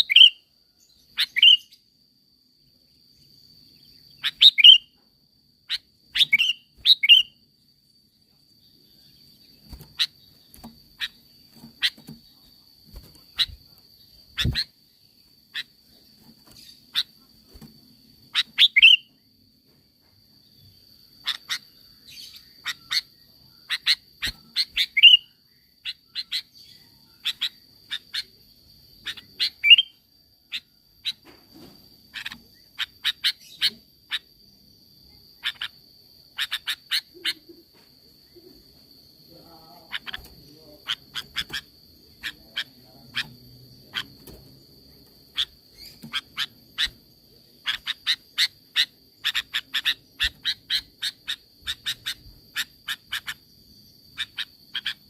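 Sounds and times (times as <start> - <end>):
bird chirping: 0.0 - 2.0, 2.7 - 19.3, 20.4 - 31.4, 32.0 - 55.0.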